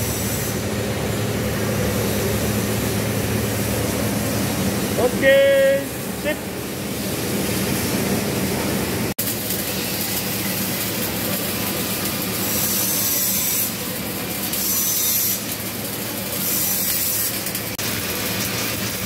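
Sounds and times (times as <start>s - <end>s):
welding arc crackling: 0.0s - 19.0s.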